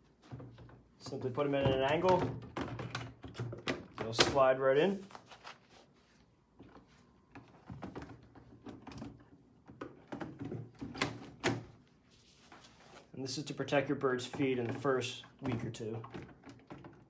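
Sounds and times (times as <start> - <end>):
plastic mats clicking and knocking: 0.0 - 5.6, 6.6 - 11.9, 13.7 - 17.0.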